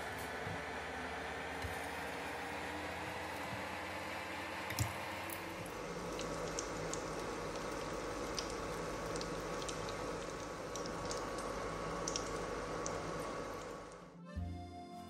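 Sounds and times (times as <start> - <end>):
food deep-frying in oil: 0.0 - 14.1.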